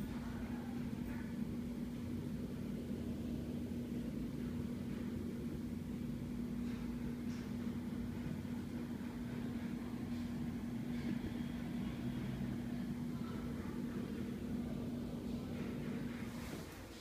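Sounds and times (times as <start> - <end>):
exhaust fan humming: 0.0 - 17.0.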